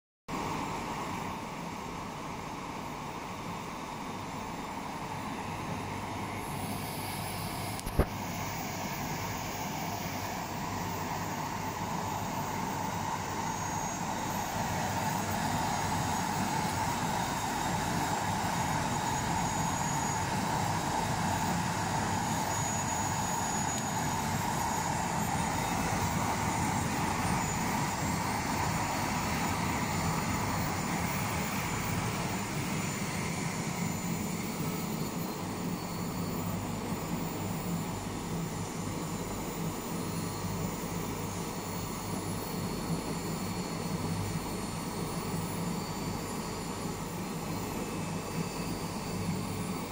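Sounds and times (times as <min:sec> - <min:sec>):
blower fans whooshing: 0:00.3 - 0:49.9.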